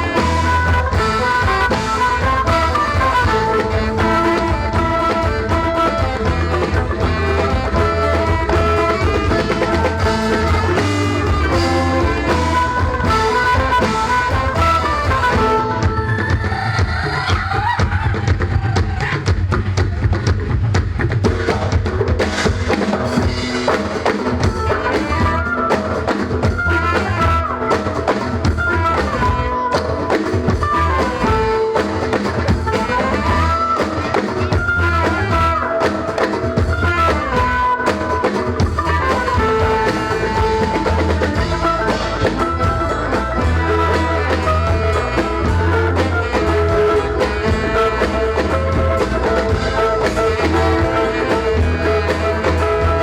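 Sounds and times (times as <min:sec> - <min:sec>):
band playing ornamented melody: 0:00.0 - 0:17.4, 0:21.2 - 0:53.0
steady drumming: 0:00.0 - 0:53.0.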